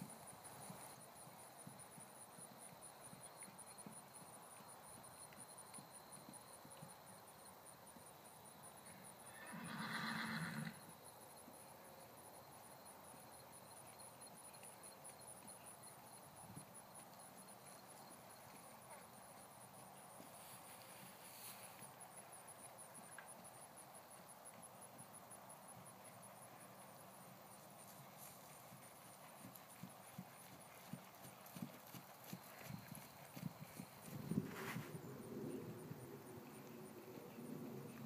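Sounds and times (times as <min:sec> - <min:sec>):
hoofbeats trotting on grass: 0:00.0 - 0:07.2, 0:12.4 - 0:38.0.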